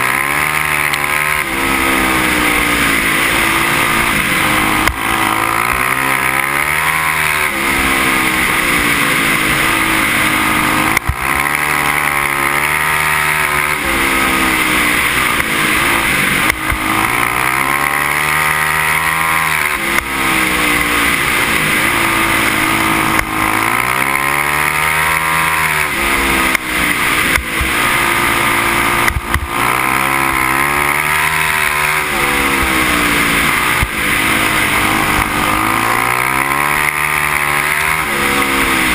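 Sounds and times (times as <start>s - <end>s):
racing engine revving: 0.0s - 38.9s
wind and dirt noise: 0.0s - 38.9s.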